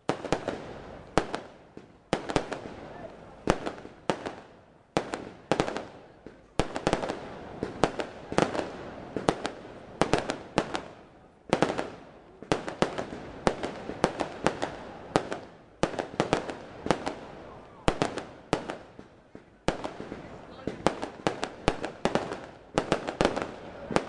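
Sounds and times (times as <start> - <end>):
fireworks bursting with bangs: 0.0 - 24.0.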